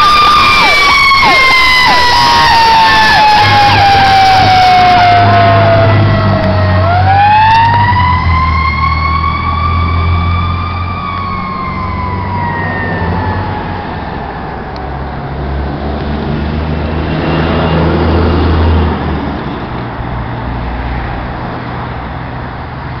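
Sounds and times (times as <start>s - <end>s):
fire truck siren: 0.0s - 20.1s.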